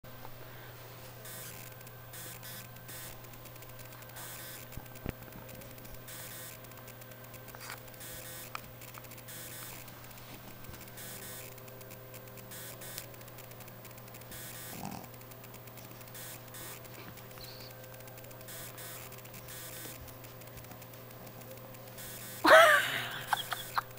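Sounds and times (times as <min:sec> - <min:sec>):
camcorder running hum: 0:00.1 - 0:23.9
faint clicks: 0:01.2 - 0:22.5.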